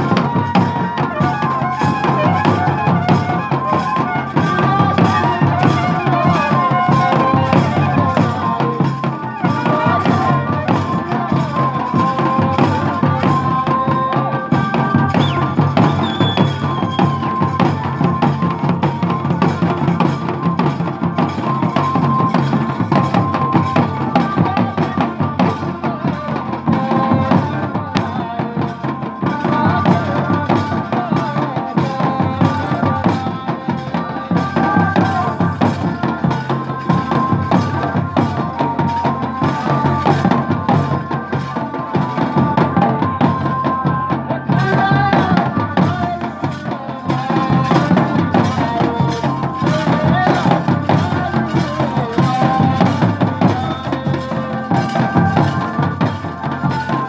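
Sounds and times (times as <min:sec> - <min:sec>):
drums beating quick rhythm: 0:00.0 - 0:57.0.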